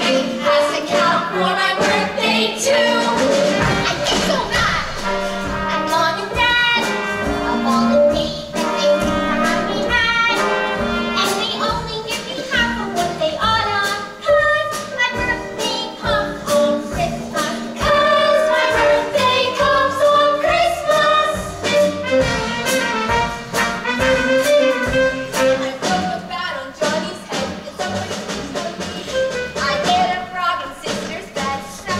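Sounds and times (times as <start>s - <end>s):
brass-led accompaniment: 0.0s - 13.6s, 14.2s - 27.0s
young voices singing: 0.0s - 22.0s, 25.2s - 31.9s.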